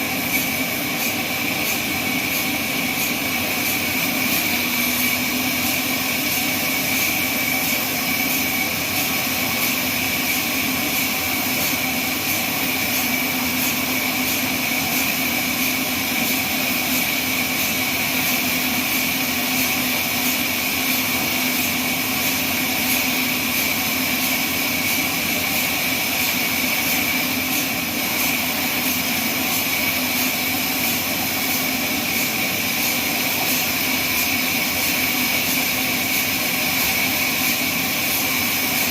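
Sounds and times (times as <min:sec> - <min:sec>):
band saw running: 0:00.0 - 0:38.9.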